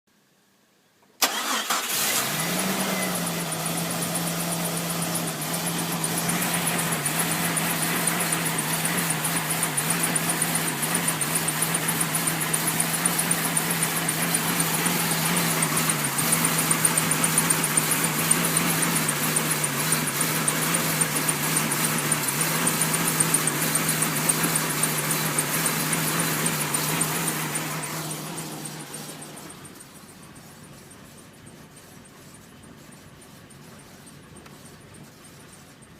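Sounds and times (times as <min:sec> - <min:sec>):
car engine starting and idling roughly: 0:01.1 - 0:35.9
squeaky fan belt chirping: 0:02.2 - 0:35.9.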